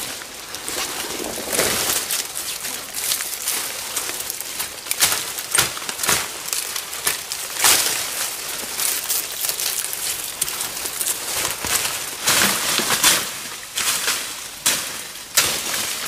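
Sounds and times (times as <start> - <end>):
dry vines and leaves rustling: 0.0 - 16.0
sharp snaps of stems: 2.0 - 16.0.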